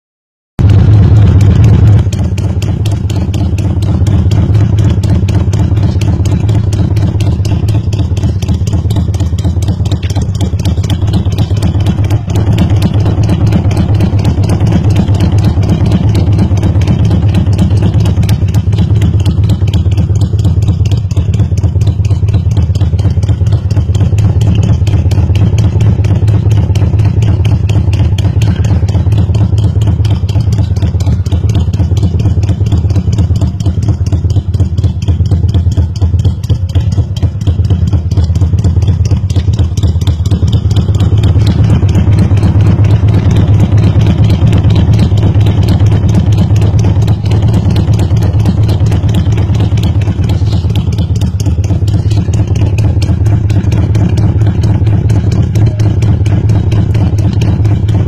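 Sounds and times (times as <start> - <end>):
motorcycle engine idling: 0.6 - 58.0.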